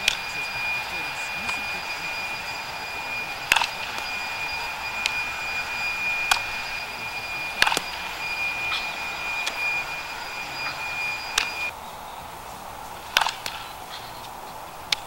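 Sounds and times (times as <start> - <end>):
steady hiss with high tone: 0.0 - 15.0.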